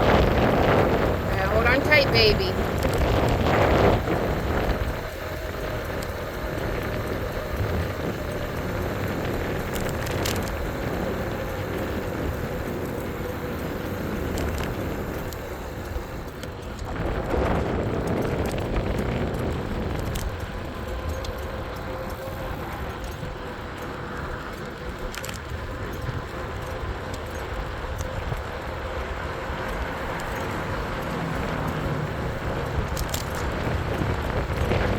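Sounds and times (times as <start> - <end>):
road rumble: 0.0 - 34.9
wind buffeting microphone: 0.0 - 34.9.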